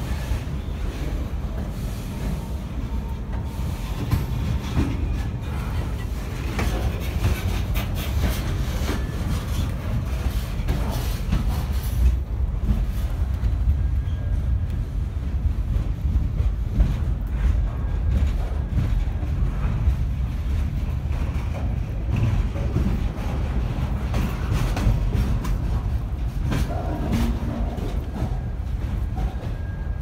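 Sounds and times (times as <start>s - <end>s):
freight car wheels rumbling: 0.0s - 30.0s.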